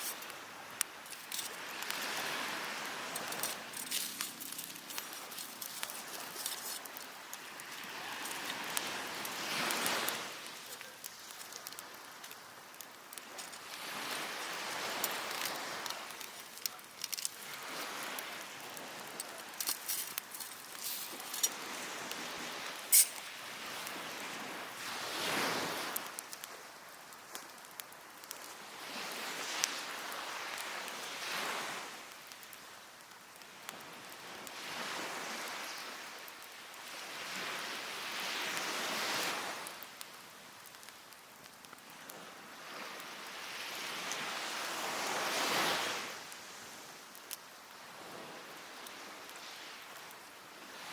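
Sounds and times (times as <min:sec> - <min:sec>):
waves washing on beach: 0:00.0 - 0:50.9
wood fire crackling and popping: 0:00.0 - 0:50.9.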